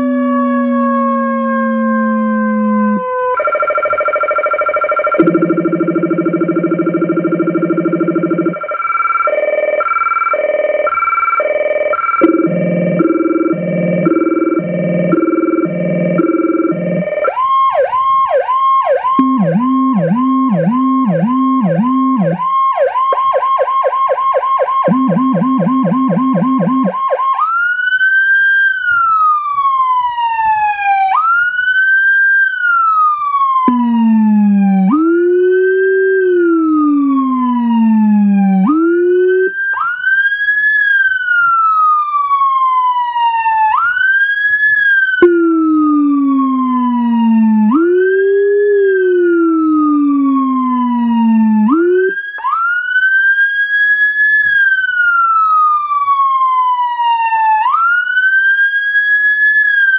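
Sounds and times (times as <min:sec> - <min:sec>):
deep low-frequency siren: 0:00.0 - 0:59.9
electronic siren: 0:00.0 - 0:59.9.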